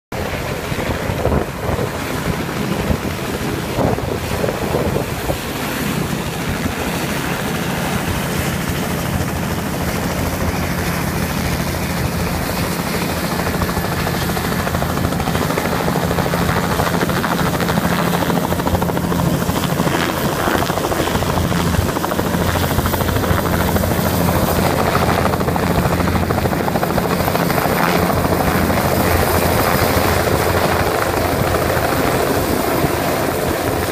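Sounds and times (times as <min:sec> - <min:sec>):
helicopter rotor drone: 0:00.1 - 0:33.9
high turbine whine: 0:00.2 - 0:33.9.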